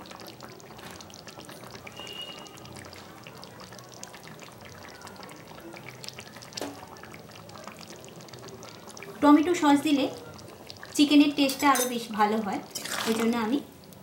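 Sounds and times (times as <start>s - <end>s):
food simmering with bubbling pops: 0.0s - 14.0s.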